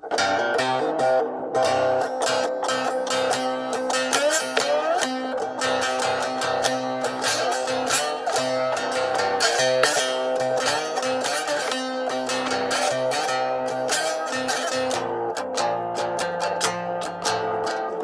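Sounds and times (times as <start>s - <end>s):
plucked guitar melody: 0.0s - 18.0s.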